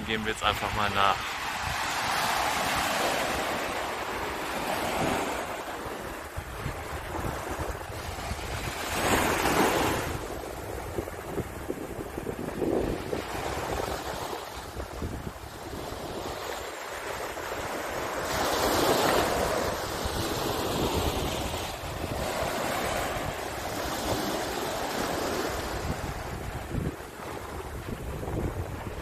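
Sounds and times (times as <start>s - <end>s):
waves breaking on beach: 0.0s - 29.0s
wind rumbling on microphone: 0.0s - 29.0s.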